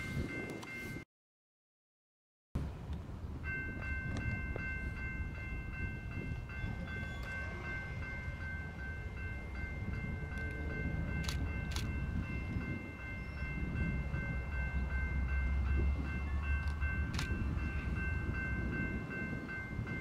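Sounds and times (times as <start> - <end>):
distant locomotive rumble: 2.6 - 20.0
bell ringing: 3.5 - 20.0.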